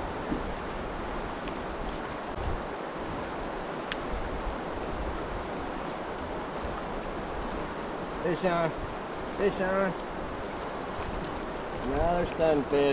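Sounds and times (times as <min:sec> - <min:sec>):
creek water rushing: 0:00.0 - 0:12.9.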